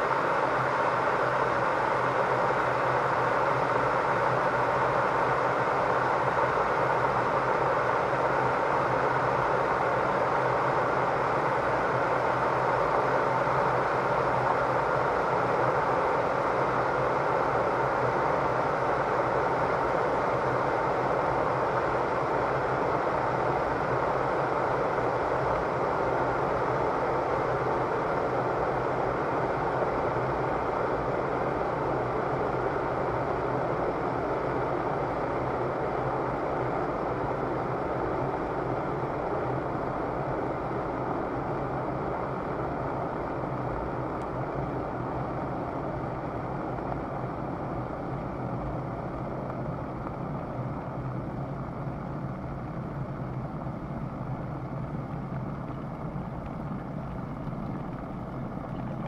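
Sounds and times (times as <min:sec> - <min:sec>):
kettle water boiling: 0:00.0 - 0:59.0.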